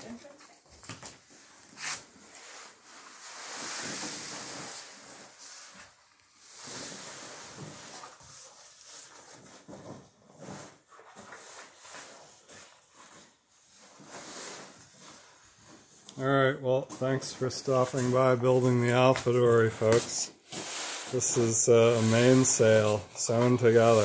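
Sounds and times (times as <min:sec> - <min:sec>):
sailcloth rustling and crinkling: 0:01.2 - 0:16.4, 0:17.0 - 0:24.0.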